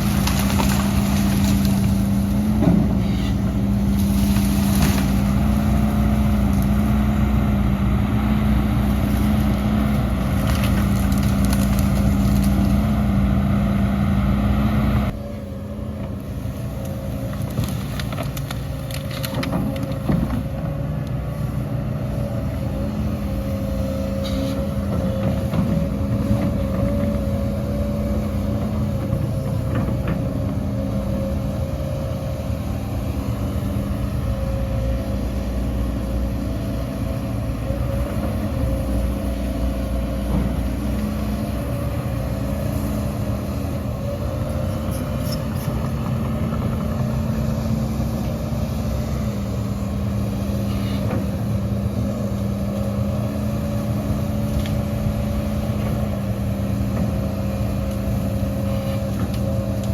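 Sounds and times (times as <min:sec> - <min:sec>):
heavy machinery diesel engine rumbling: 0:00.0 - 0:59.9.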